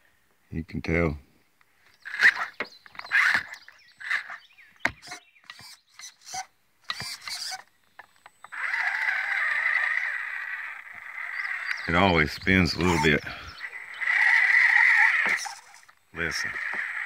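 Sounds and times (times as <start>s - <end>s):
toy car motor whirring: 2.0s - 11.9s, 12.7s - 17.0s.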